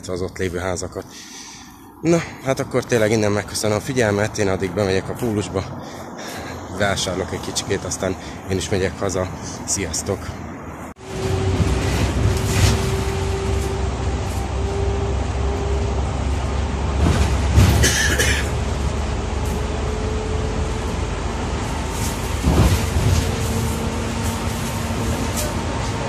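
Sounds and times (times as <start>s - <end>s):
bus ride low rumble: 0.0s - 26.0s.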